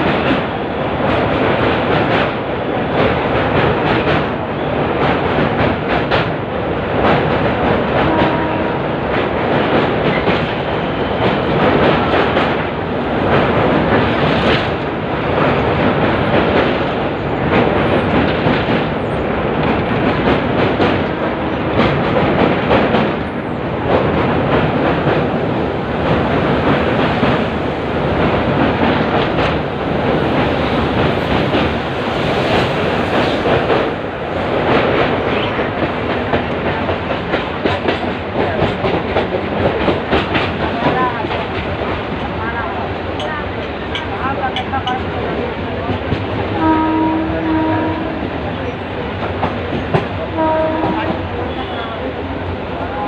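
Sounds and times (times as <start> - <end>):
train rumbling: 0.0 - 53.0.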